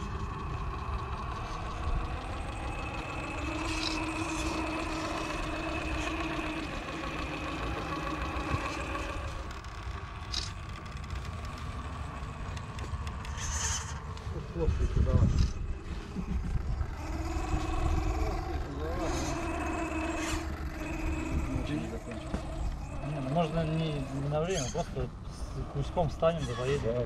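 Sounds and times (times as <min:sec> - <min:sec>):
low rumble: 0:00.0 - 0:26.4
electric motor and gearbox whining: 0:00.0 - 0:27.0.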